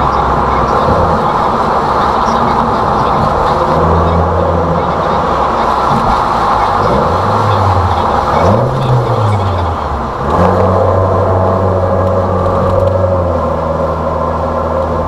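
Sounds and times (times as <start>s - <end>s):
minivan engine and exhaust: 0.0s - 15.0s.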